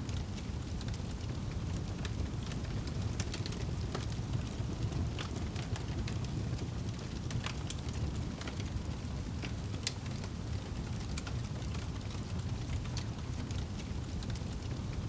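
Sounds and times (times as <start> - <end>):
fire rumbling in fireplace: 0.0 - 15.0.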